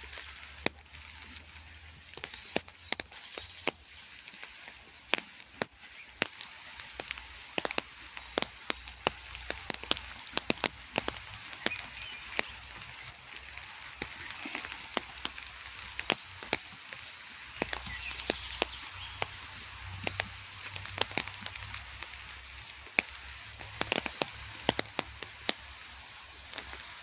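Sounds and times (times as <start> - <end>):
rain pattering: 0.0 - 27.0
raindrops tapping close by: 0.0 - 27.0.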